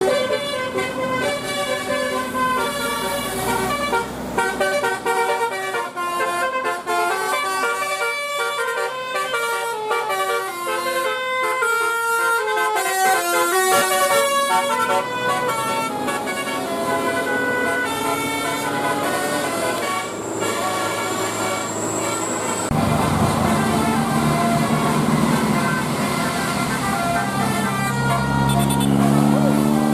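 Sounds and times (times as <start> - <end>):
musical bus horn tune: 0.0 - 29.9.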